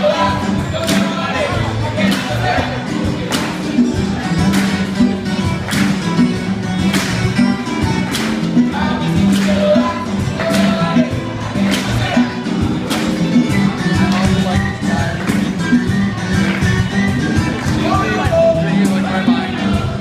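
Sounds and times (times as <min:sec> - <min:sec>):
latin band music: 0:00.0 - 0:20.0
percussion beat: 0:00.0 - 0:20.0
plucked guitar: 0:00.0 - 0:20.0.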